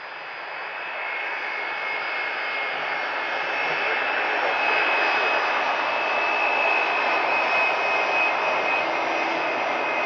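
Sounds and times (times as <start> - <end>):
jet engines taxiing past: 0.0 - 10.0.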